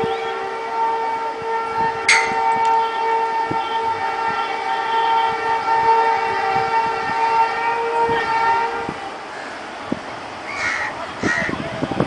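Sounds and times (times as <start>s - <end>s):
locomotive air horn blast: 0.0s - 9.8s.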